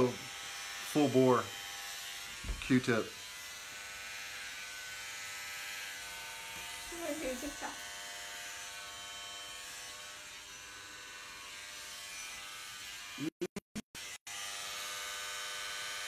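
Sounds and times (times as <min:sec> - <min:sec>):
electric hair clippers buzzing: 0:00.0 - 0:16.0.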